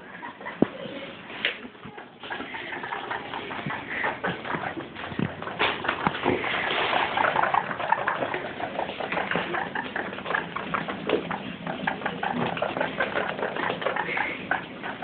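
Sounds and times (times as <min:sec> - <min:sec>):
guinea pigs squeaking: 0:00.0 - 0:15.0.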